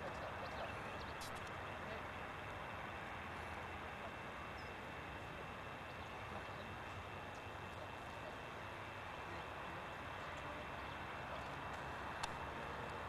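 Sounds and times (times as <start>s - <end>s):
faint high whine: 0.0s - 13.0s
outdoor background hiss: 0.0s - 13.0s.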